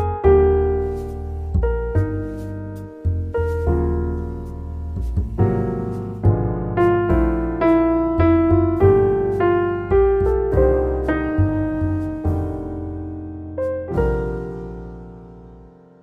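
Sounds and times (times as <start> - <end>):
sustained low bass: 0.0 - 15.2
slow piano notes: 0.0 - 16.0.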